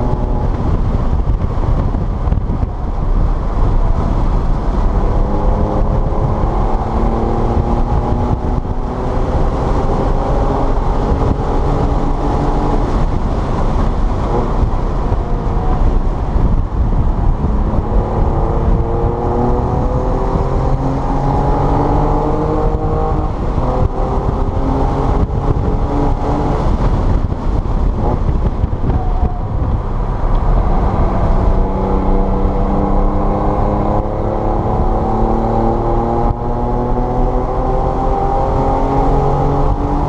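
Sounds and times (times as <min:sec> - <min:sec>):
car engine accelerating hard: 0:00.0 - 0:40.0
road and wind noise: 0:00.0 - 0:40.0.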